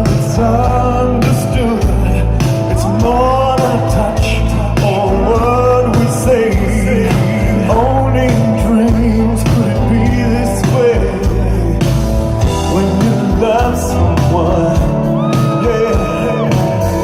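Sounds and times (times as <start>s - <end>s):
man singing: 0.0s - 17.0s
rock band music: 0.0s - 17.0s.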